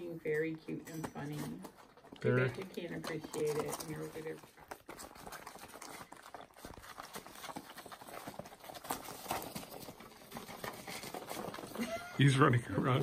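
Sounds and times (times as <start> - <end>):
puppy paws tapping and rustling: 0.0 - 13.0.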